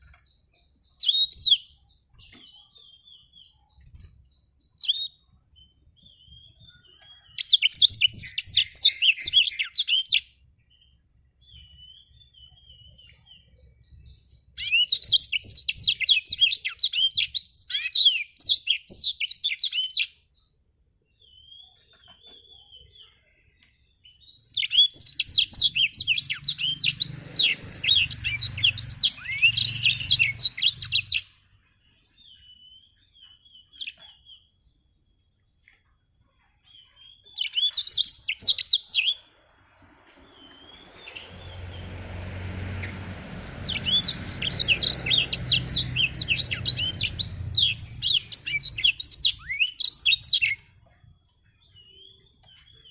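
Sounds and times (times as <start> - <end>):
canary twittering song: 0.0 - 52.9.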